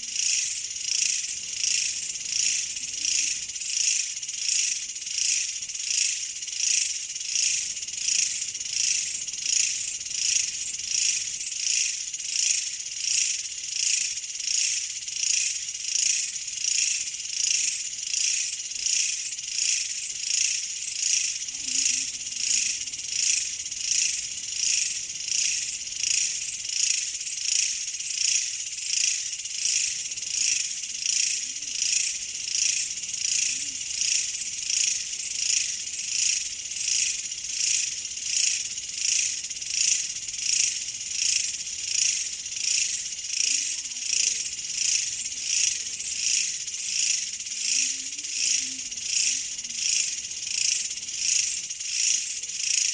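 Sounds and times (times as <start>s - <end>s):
pulsing insect chorus: 0.0s - 52.9s.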